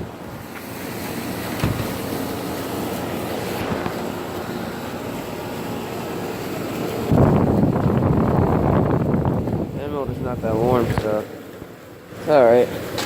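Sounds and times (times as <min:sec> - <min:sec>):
air conditioner fan and compressor: 0:00.0 - 0:13.0.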